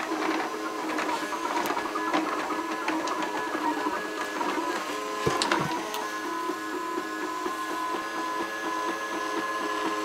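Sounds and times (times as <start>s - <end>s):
stepper motors whining: 0.0s - 10.0s.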